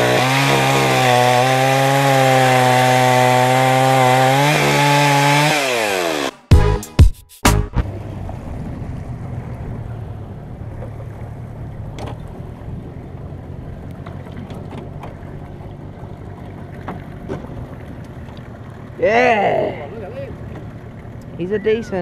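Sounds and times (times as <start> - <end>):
boat motor humming: 0.0 - 6.8, 7.5 - 22.0.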